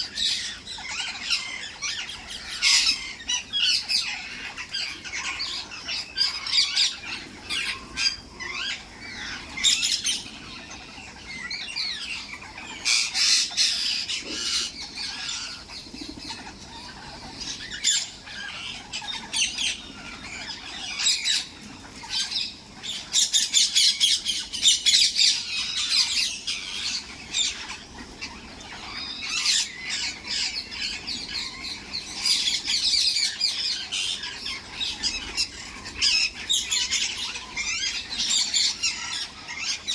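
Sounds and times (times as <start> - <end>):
parrots squawking and chattering: 0.0 - 39.9.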